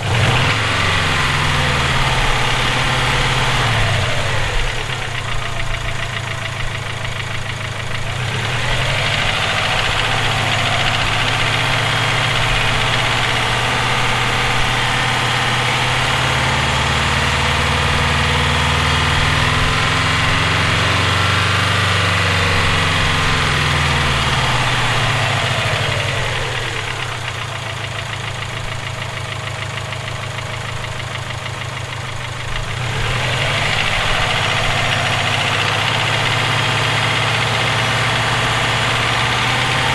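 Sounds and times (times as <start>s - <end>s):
car engine running with knock: 0.0s - 39.9s.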